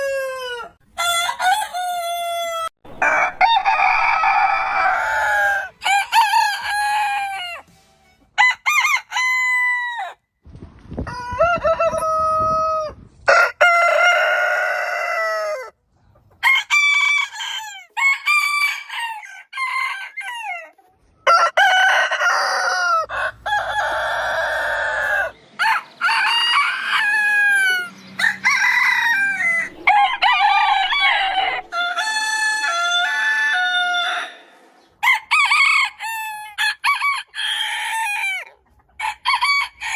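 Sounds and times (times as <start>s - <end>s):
roosters crowing: 0.0s - 7.7s, 8.4s - 10.2s, 11.0s - 15.8s, 16.4s - 39.9s.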